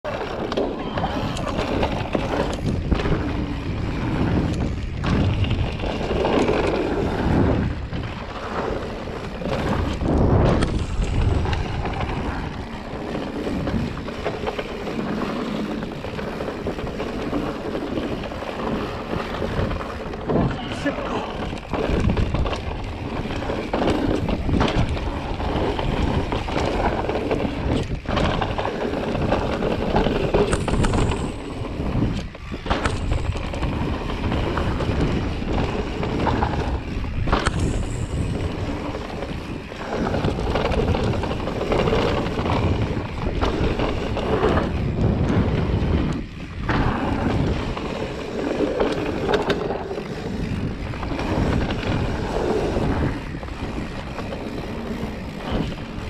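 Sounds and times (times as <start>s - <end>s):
wind noise on microphone: 0.0s - 56.0s
bike knocking and rattling: 0.1s - 56.0s
tyre noise on dirt: 0.1s - 56.0s.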